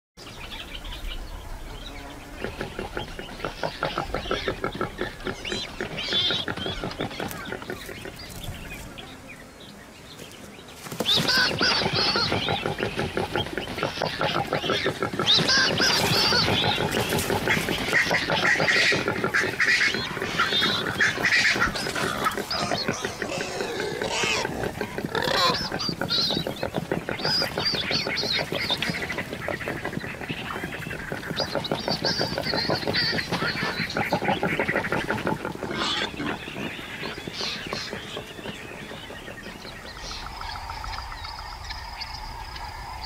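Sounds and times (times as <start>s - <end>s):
warthogs grunting and squealing: 2.3s - 8.6s, 11.0s - 41.8s.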